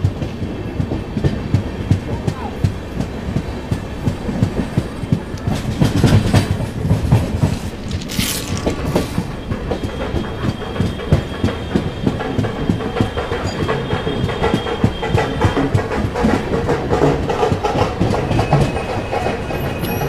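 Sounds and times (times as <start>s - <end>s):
train wheels clattering on rails: 0.0s - 20.0s.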